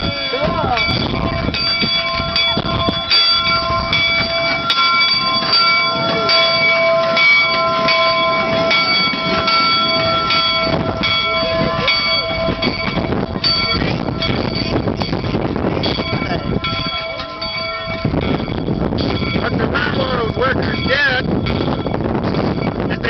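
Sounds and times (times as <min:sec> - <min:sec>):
locomotive bell ringing: 0:00.0 - 0:23.0
locomotive rumbling on track: 0:00.0 - 0:23.0.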